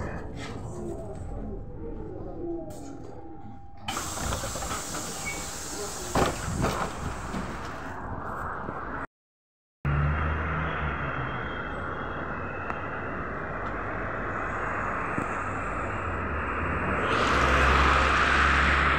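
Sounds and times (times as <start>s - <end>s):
electric bus humming: 0.0s - 7.9s, 9.9s - 18.9s.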